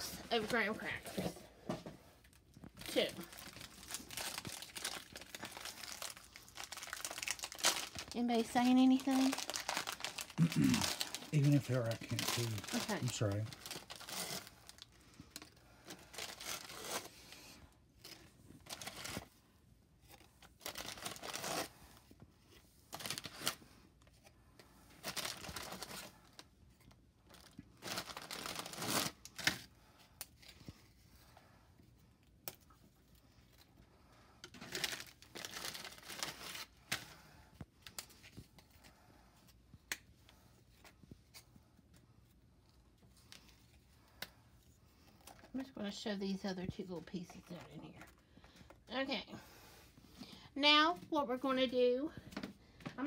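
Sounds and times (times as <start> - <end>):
waxed paper crinkling: 2.0 - 19.3, 20.0 - 48.8.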